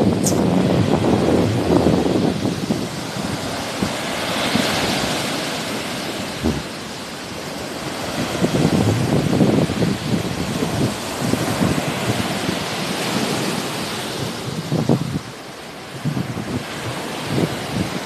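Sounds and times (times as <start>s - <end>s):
sea waves washing ashore: 0.0s - 18.0s
wind buffeting microphone: 0.0s - 18.0s.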